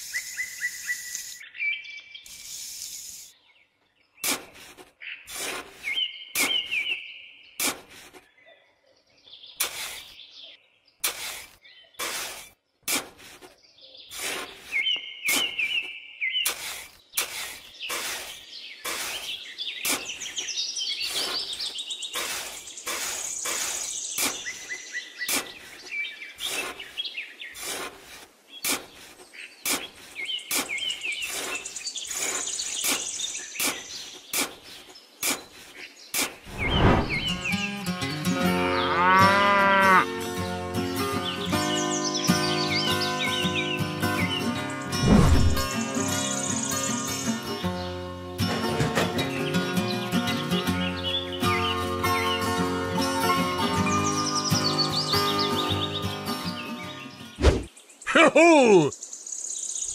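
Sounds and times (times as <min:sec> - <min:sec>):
birds chirping: 0:00.0 - 0:37.9, 0:38.5 - 0:48.1, 0:49.1 - 0:59.9.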